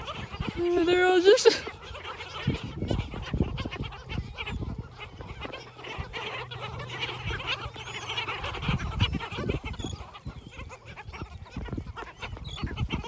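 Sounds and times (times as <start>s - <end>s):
flock of gulls calling: 0.0s - 13.0s.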